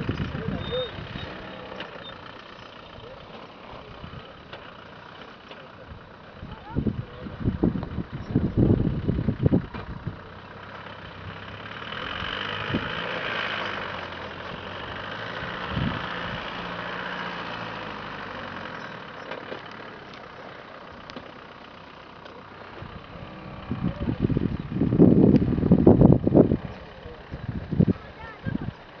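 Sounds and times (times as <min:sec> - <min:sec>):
distant car engine climbing: 0:00.0 - 0:29.0.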